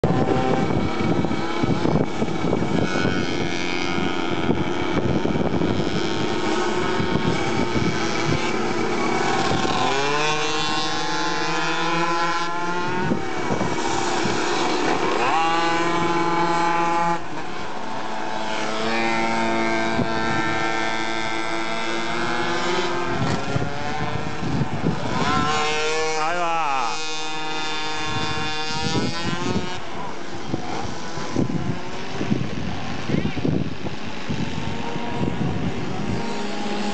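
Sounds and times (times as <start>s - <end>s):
mini motorbike engines revving: 0.0s - 36.9s.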